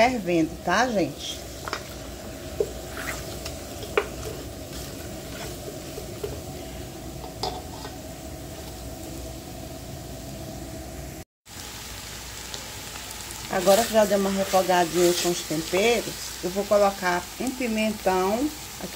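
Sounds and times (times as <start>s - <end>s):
meat sizzling in oil: 0.0s - 10.6s, 11.4s - 18.9s.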